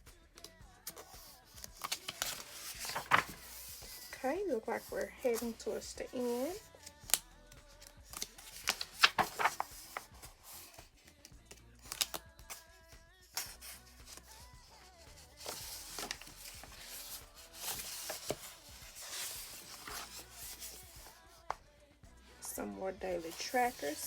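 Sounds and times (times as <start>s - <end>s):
pages turning: 0.9s - 7.2s, 7.8s - 12.7s, 13.4s - 21.6s, 23.2s - 24.0s.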